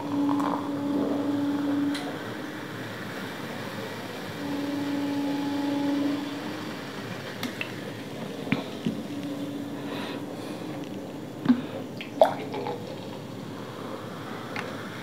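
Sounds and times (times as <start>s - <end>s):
cola pouring and fizzing: 0.0s - 4.6s, 6.6s - 15.0s
steady low hum: 0.0s - 15.0s.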